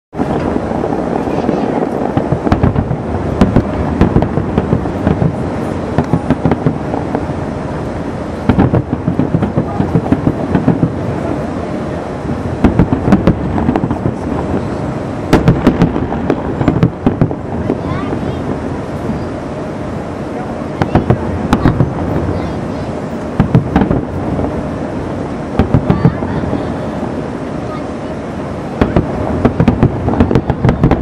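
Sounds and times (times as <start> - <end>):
continuous rumble: 0.1 - 31.0
firework shells booming and crackling: 0.1 - 31.0
sharp firework bangs: 0.2 - 31.0.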